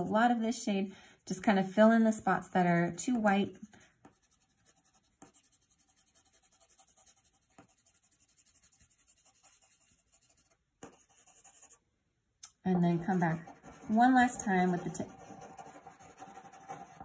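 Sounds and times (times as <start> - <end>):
pencil scratching on paper: 0.0 - 0.4, 1.2 - 11.8, 12.8 - 17.0.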